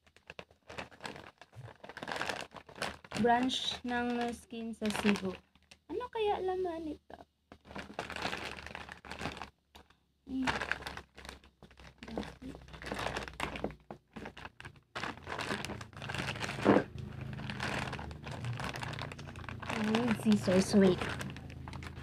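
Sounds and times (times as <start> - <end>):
plastic bag crinkling: 0.0 - 6.1, 7.5 - 22.0
plastic bag snapping: 0.1 - 5.8, 7.5 - 22.0.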